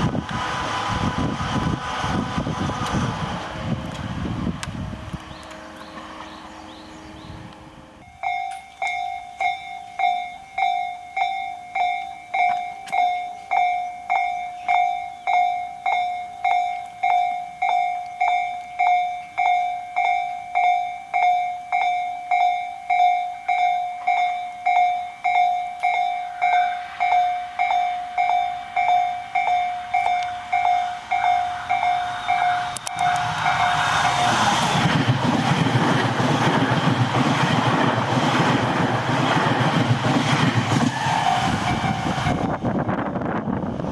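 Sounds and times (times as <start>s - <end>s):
train running through: 0.0s - 43.9s.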